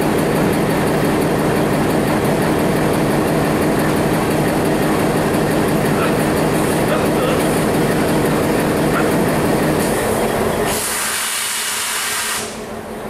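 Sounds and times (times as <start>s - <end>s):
train coaches rumbling past: 0.0s - 11.8s.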